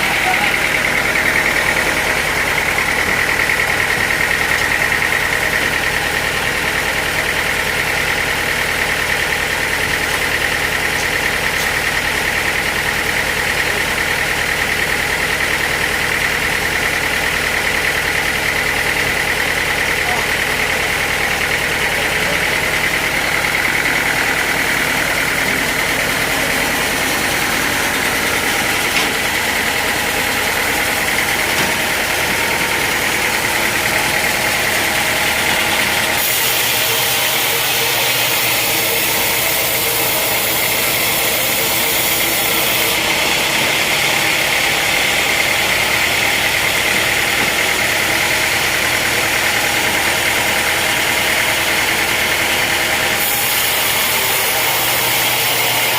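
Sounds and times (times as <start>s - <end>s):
sawmill machinery whining: 0.0s - 55.9s.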